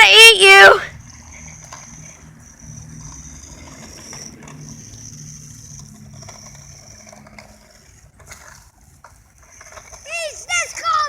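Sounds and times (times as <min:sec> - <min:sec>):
small motor whining: 0:00.0 - 0:11.0.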